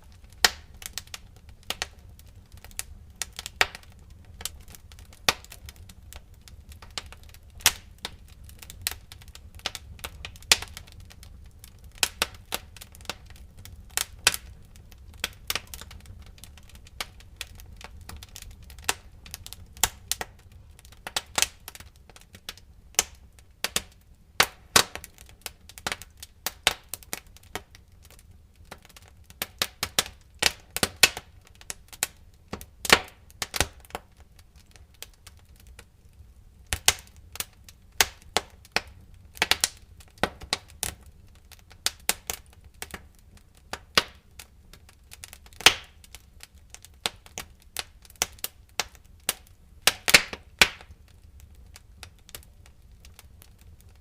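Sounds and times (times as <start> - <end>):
pops and snaps of burning firewood: 0.0 - 54.0
wood fire crackling: 0.0 - 54.0.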